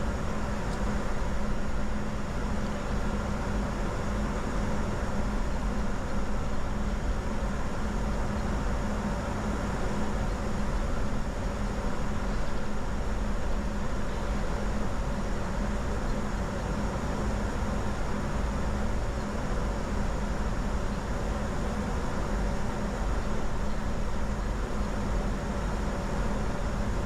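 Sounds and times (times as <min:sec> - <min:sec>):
constant low hum: 0:00.0 - 0:27.0.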